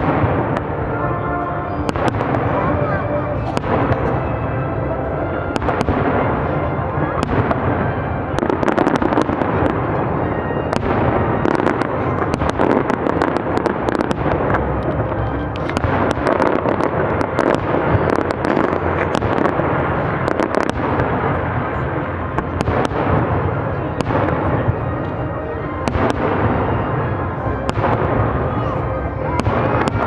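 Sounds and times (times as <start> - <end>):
fireworks crackling: 0.0 - 30.0
fireworks rumbling bursts: 0.0 - 30.0.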